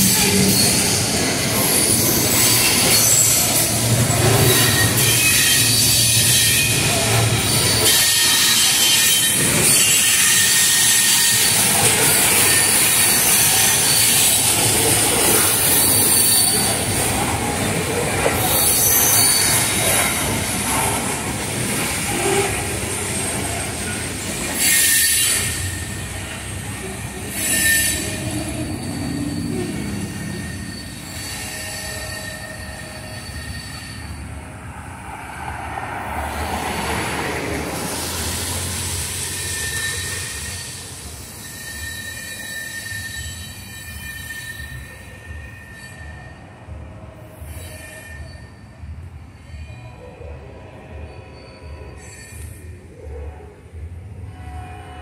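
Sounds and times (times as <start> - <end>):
freight train rumbling past: 0.0 - 55.0
wheels squealing on rails: 0.0 - 55.0.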